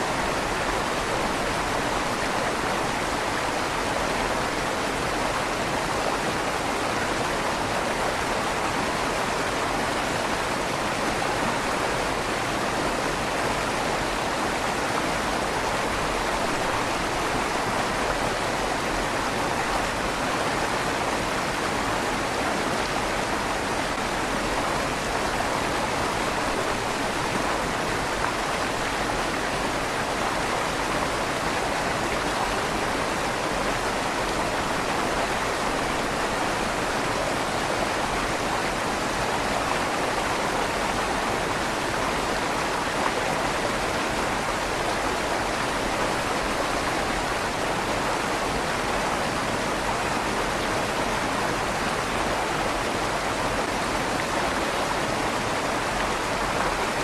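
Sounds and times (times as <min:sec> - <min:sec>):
river water rushing through tunnel: 0:00.0 - 0:57.0.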